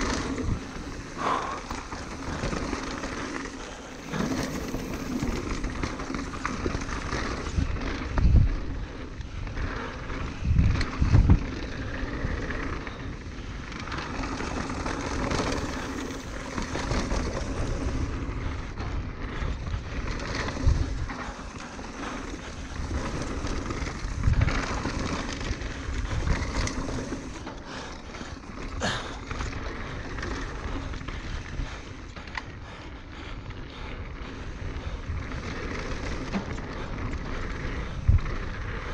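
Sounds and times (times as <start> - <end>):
wind on microphone: 0.0 - 27.4, 28.8 - 38.9
bike rattling: 0.0 - 38.9
tyres rolling and skidding on dirt: 0.0 - 38.9.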